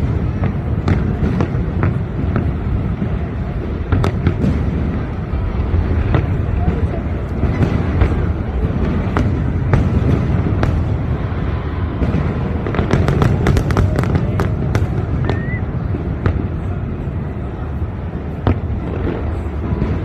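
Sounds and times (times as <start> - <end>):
fireworks cracking and popping: 0.0 - 20.0
steady low rumble: 0.0 - 20.0.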